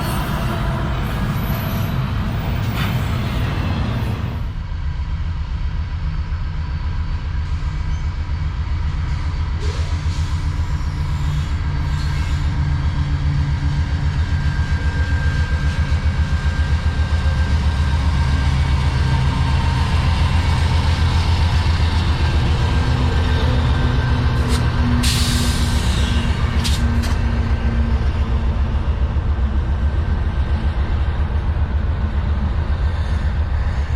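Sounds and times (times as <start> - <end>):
diesel locomotive engine throbbing: 0.0 - 33.9.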